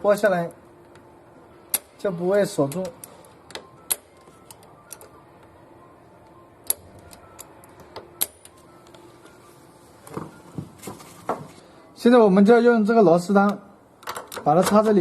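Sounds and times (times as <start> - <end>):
faint steady hum: 0.0 - 14.4.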